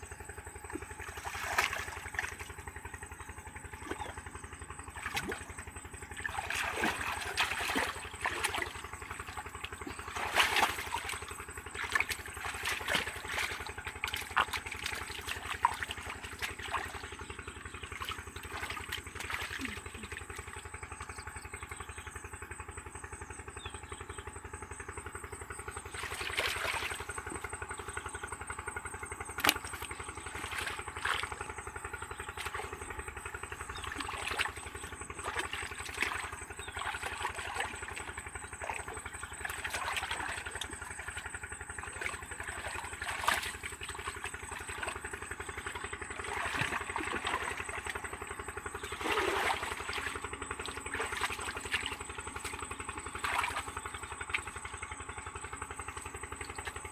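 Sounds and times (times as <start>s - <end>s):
small engine running: 0.0s - 56.9s.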